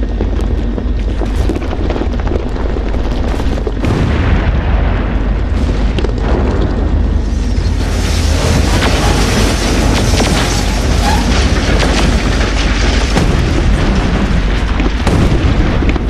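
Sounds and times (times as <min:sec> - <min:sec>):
deep rumble of explosions: 0:00.0 - 0:16.0.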